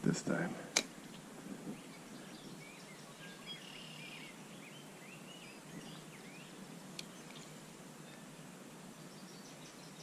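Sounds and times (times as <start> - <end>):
faint birds chirping: 0.0 - 10.0
low outdoor hiss: 0.0 - 10.0.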